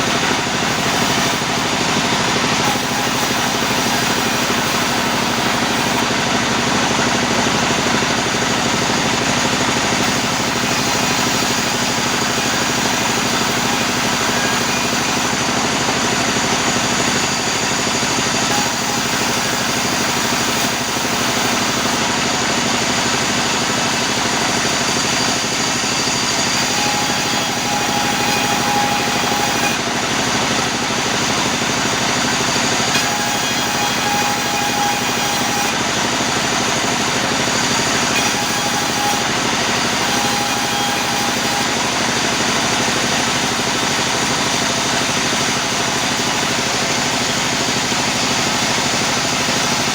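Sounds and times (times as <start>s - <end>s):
high machine whine: 0.0s - 49.9s
sawmill machinery running: 0.0s - 49.9s.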